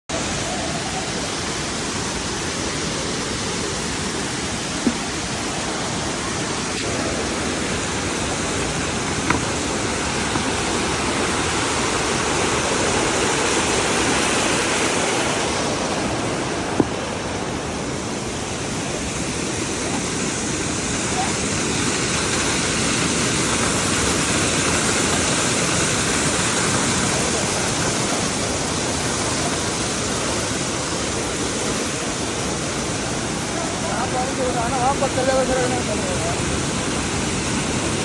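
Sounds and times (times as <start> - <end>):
floodwater rushing: 0.1 - 38.0.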